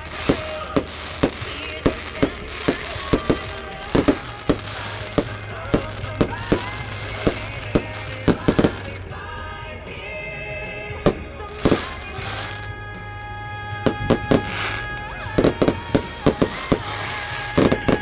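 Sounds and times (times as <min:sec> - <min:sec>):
fireworks bangs: 0:00.0 - 0:10.0, 0:10.9 - 0:13.1, 0:13.8 - 0:18.0
background music: 0:00.0 - 0:18.0.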